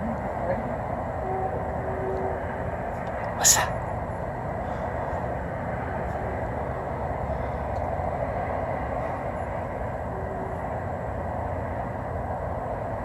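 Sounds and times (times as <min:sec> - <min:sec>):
rushing drone: 0:00.0 - 0:13.0.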